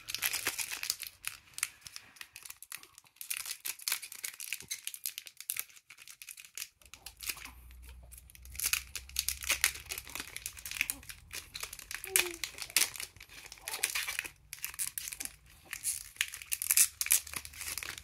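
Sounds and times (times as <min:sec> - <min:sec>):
foil wrapper tearing and crinkling: 0:00.0 - 0:18.0.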